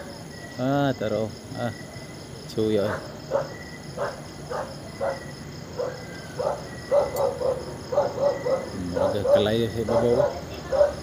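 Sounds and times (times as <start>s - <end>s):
frogs croaking: 0.0s - 11.0s
high insect trill: 0.0s - 11.0s.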